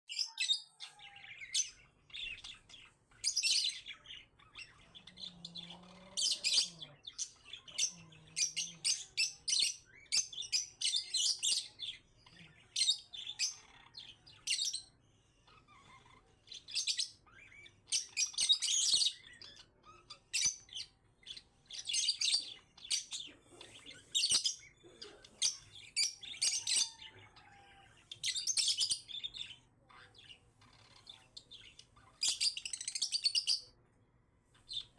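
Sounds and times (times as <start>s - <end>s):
parakeets chirping: 0.1s - 34.9s.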